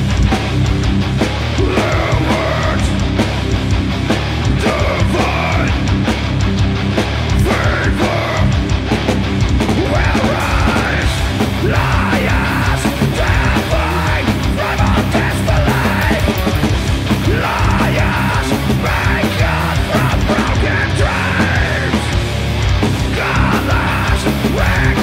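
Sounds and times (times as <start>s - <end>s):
bass guitar: 0.0s - 25.0s
distorted electric guitars: 0.0s - 25.0s
drums and cymbals: 0.0s - 25.0s.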